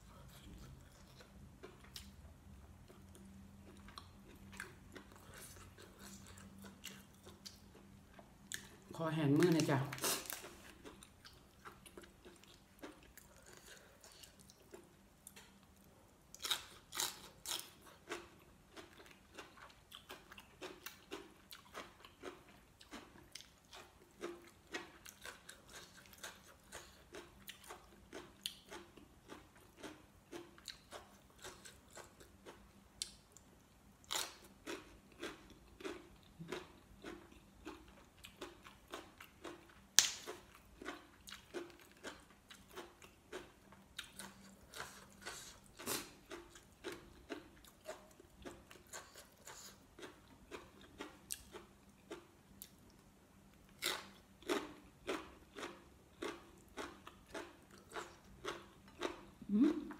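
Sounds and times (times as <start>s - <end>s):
person chewing crunchy vegetables: 0.0s - 59.9s.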